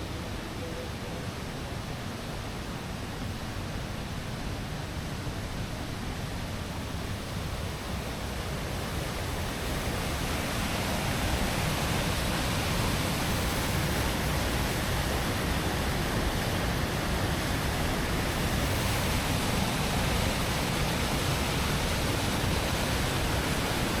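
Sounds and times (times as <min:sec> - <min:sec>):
waterfall rushing water: 0:00.0 - 0:24.0.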